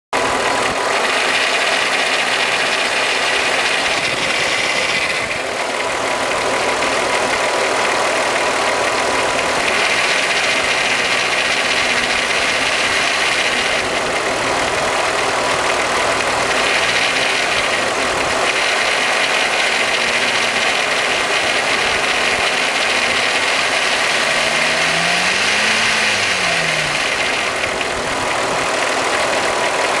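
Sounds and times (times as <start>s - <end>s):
car engine idling: 0.2s - 30.0s
timing chain rattle: 0.9s - 7.6s, 8.4s - 30.0s.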